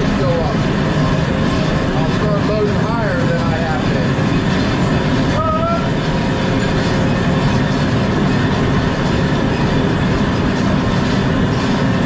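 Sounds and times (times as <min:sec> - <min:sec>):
vehicle rattling and rolling: 0:00.0 - 0:12.0.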